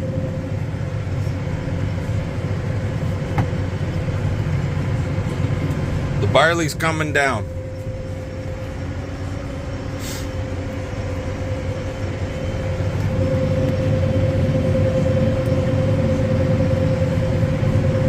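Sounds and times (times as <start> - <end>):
constant machine whine: 0.0 - 18.0
low engine drone: 0.0 - 18.0.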